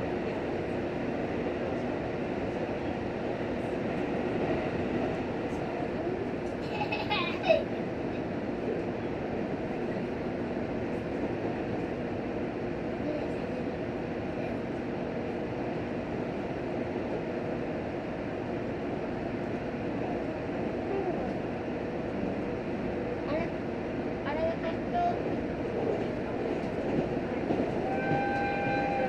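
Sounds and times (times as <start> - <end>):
train engine drone: 0.0 - 29.0
train wheels rumbling on rails: 0.0 - 29.0.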